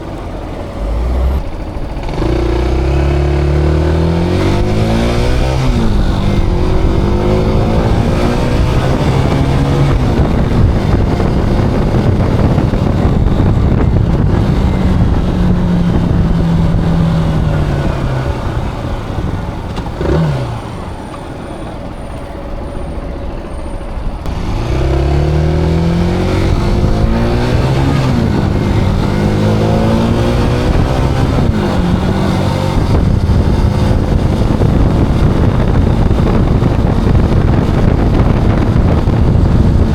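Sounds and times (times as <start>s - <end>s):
motorcycle engine accelerating: 0.0s - 39.9s
wind rush: 0.8s - 39.9s.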